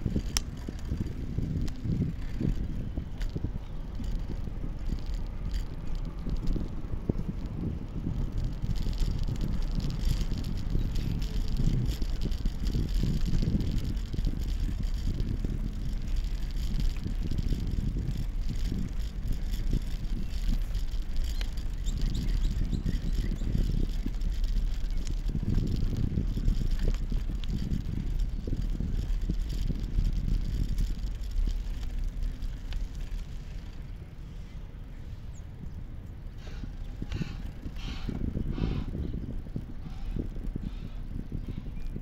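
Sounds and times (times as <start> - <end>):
bicycle tyres rolling on asphalt: 0.0 - 42.0
bike clicks and rattles: 0.0 - 42.0
wind buffeting microphone: 0.0 - 42.0.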